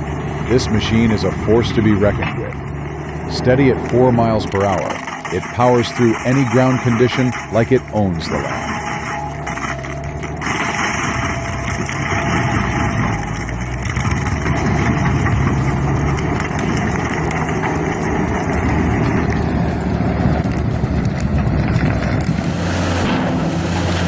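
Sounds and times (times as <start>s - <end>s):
heavy machine engine hum: 0.0s - 24.0s
rotary drum churning: 0.0s - 24.0s.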